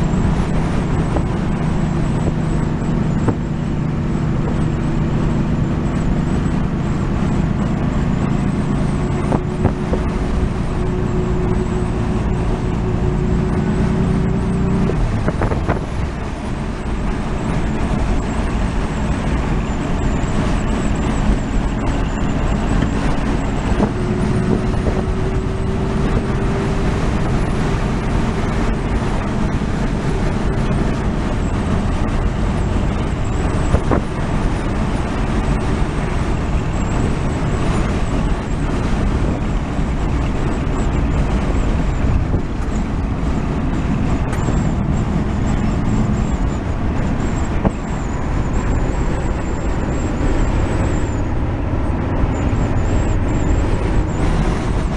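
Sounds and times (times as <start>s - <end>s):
vehicle engine and road noise: 0.0s - 54.9s.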